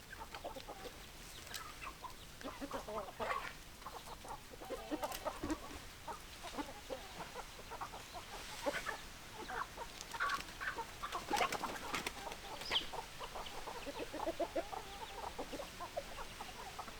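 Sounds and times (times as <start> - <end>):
hens clucking: 0.0 - 16.9.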